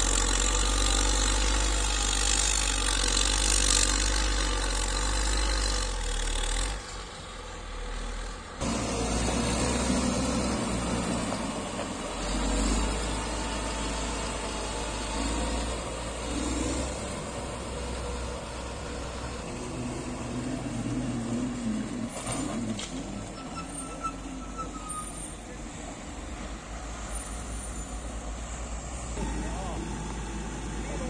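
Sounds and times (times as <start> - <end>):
diesel engine rumbling: 0.0 - 31.0.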